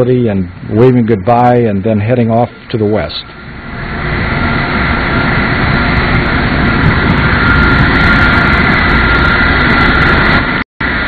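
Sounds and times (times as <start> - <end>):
high jet engine whine: 0.0 - 11.0
jet engines rumbling: 0.0 - 11.0.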